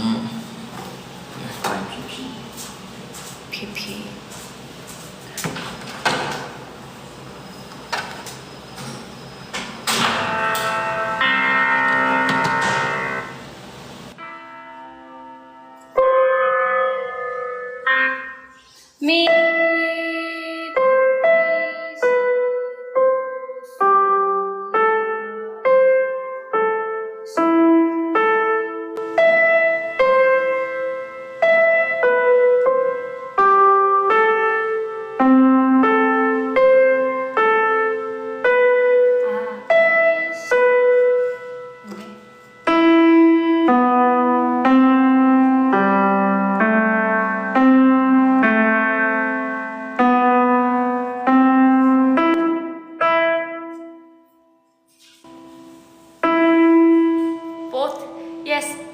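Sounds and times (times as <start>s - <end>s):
simple piano melody: 5.4s - 58.9s.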